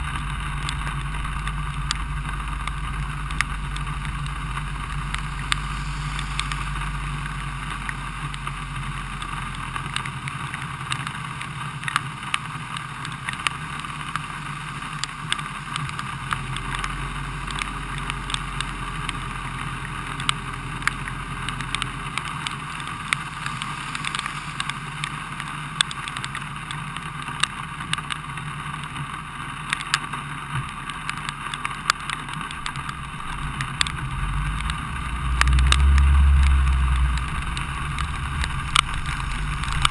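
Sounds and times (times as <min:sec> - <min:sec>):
car engine idling: 0:00.0 - 0:39.9
rain tapping on car: 0:00.0 - 0:39.9.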